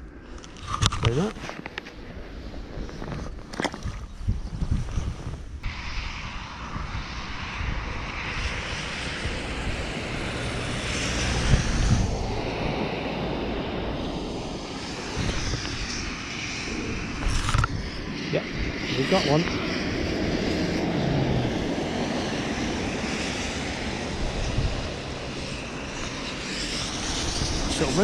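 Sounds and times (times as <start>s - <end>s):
distant engine drone: 5.5s - 28.0s.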